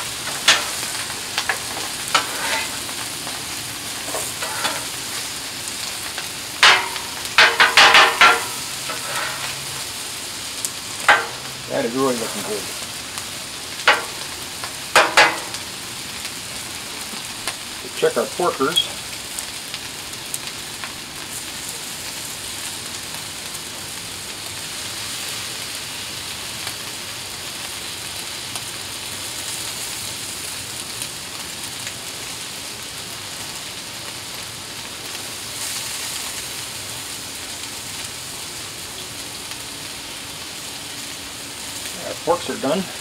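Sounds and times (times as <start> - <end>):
food sizzling on a griddle: 0.0 - 43.0.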